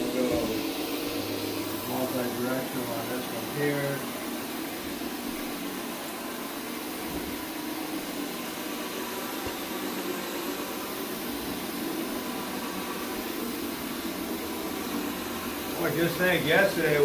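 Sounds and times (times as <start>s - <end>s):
brush scrubbing carpet: 0.0s - 17.0s
carpet machine motor hum: 0.0s - 17.0s.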